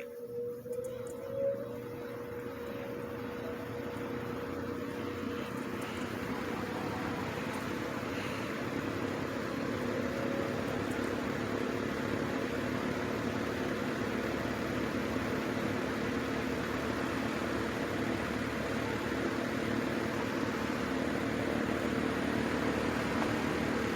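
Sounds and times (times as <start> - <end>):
box fan running: 0.0 - 23.9.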